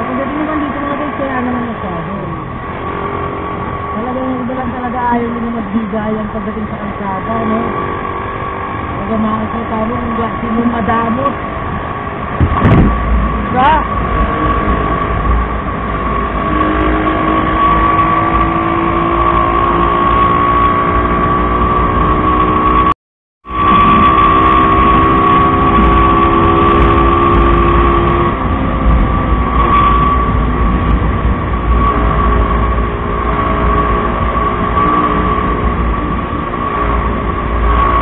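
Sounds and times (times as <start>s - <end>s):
high whine: 0.0s - 38.0s
motorcycle engine cruising: 0.0s - 38.0s
wind rumble on mic: 0.0s - 38.0s.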